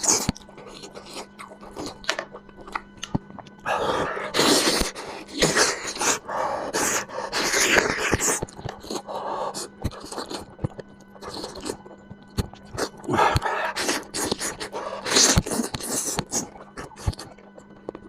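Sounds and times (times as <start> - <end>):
sharp eating clicks: 0.0 - 6.2, 6.8 - 18.0
wet mouth eating sounds: 0.0 - 18.0.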